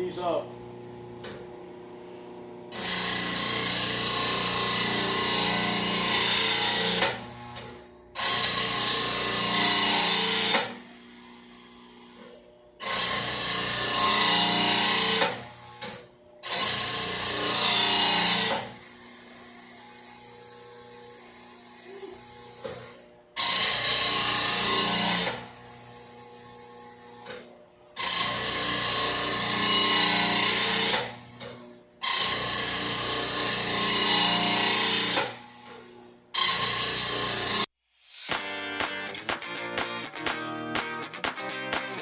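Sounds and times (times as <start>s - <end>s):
grinder motor humming: 0.0s - 37.6s
grinder grinding mower blade: 2.7s - 40.3s.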